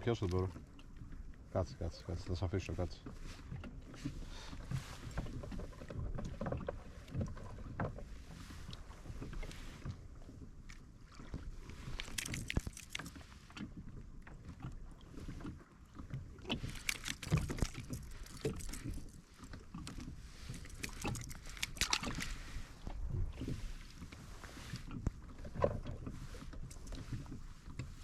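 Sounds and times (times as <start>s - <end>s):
water: 0.0s - 28.0s.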